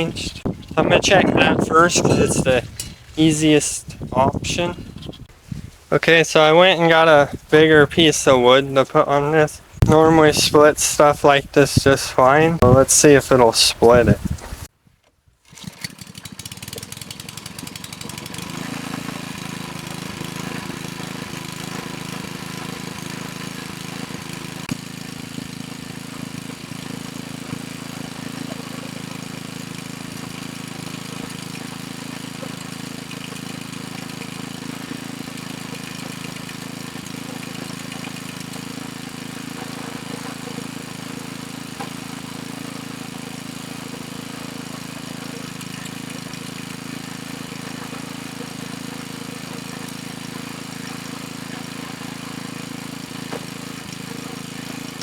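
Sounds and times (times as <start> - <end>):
small gas engine running: 0.0 - 5.8, 15.4 - 55.0.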